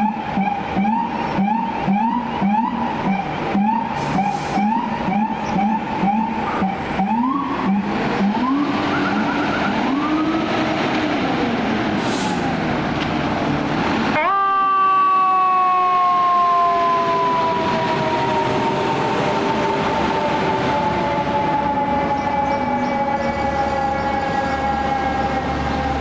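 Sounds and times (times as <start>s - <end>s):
fire truck siren: 0.0s - 26.0s.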